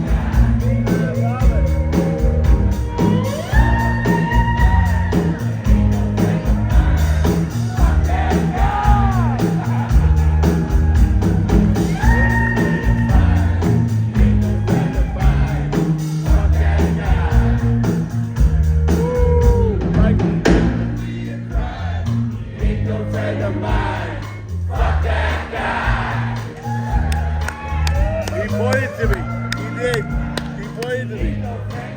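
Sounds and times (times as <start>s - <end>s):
drums and bass beat: 0.0s - 31.9s.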